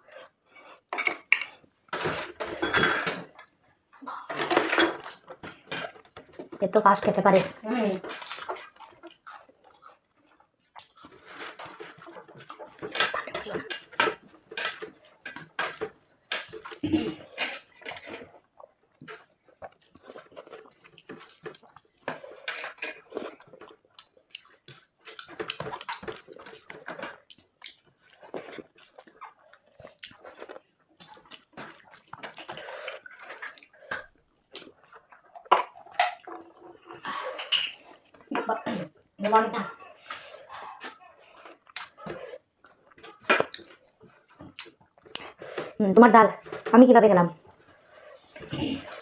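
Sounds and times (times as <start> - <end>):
chewing: 0.0 - 46.8, 47.4 - 49.0.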